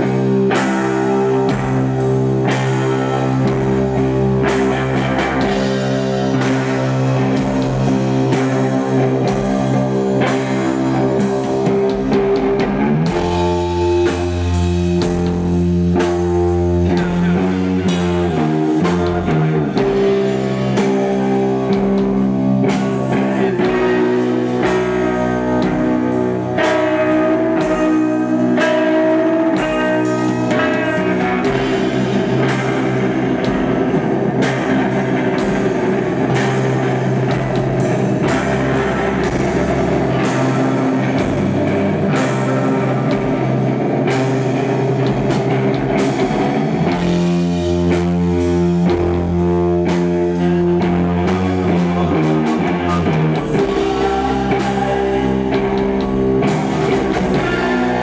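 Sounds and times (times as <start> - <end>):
noise-rock band playing loud: 0.0 - 58.0.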